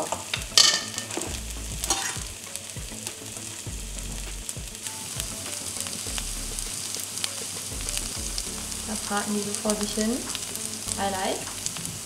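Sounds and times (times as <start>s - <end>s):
fritters sizzling in oil: 0.0s - 12.0s.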